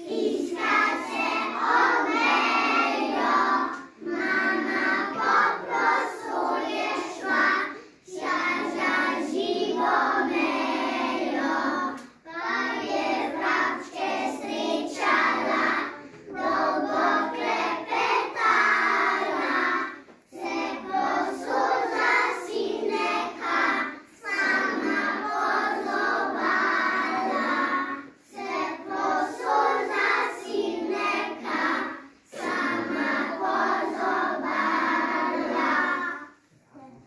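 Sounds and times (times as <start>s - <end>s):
young children singing together: 0.0s - 37.0s.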